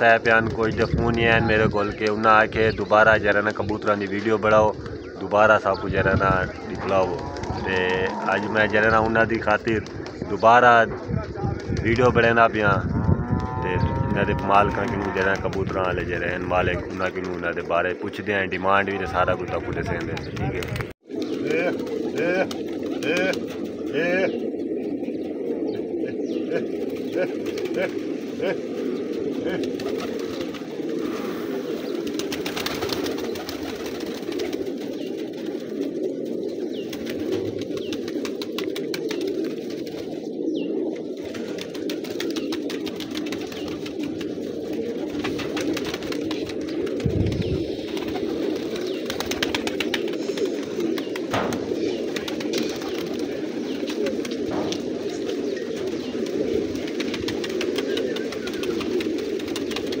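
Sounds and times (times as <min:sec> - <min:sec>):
pigeons cooing: 0:00.0 - 1:00.0
wings flapping: 0:00.0 - 1:00.0.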